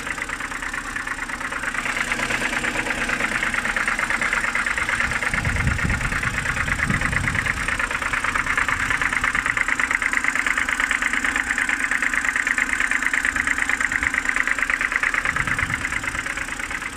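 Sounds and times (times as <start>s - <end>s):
car engine idling: 0.0s - 16.9s
rapid engine ticking knock: 0.0s - 16.9s.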